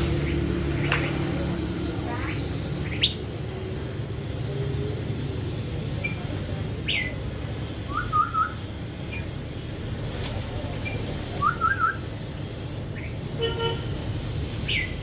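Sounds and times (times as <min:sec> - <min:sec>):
songbird chirping and warbling: 0:00.1 - 0:12.2, 0:14.6 - 0:15.0.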